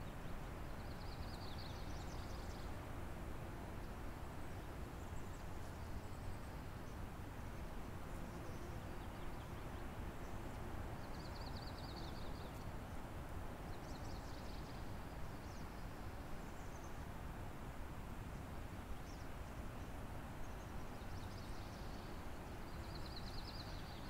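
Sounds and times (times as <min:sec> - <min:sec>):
small birds chirping: 0:00.0 - 0:02.8, 0:03.8 - 0:13.1, 0:13.7 - 0:17.1, 0:18.4 - 0:24.0.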